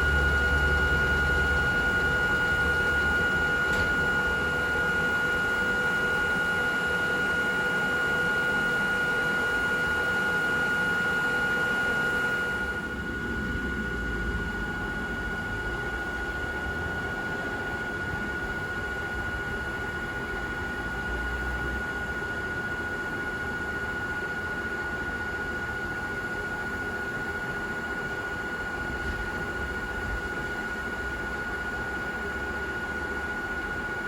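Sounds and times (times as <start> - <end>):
electric railcar equipment whine: 0.0 - 34.0.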